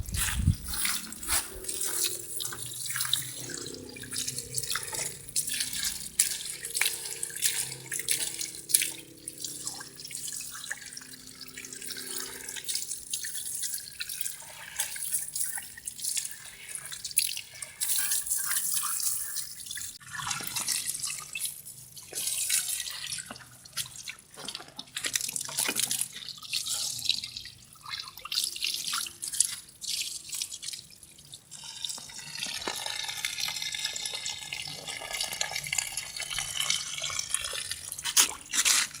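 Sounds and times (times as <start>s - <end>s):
drips and splatters: 0.0s - 39.0s
water splashing on an engine: 0.0s - 39.0s.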